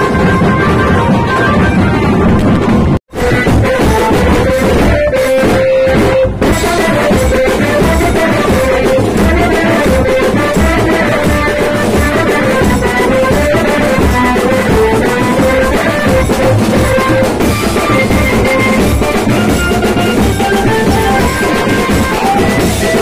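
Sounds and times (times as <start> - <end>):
drums beating: 0.0 - 23.0
street band melody: 0.0 - 23.0.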